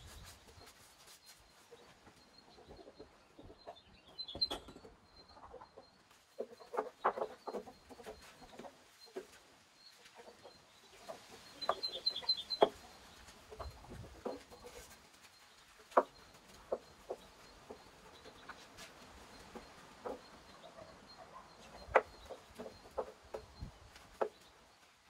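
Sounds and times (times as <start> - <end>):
birds chirping: 0.0 - 25.0
birds clucking: 0.0 - 25.0.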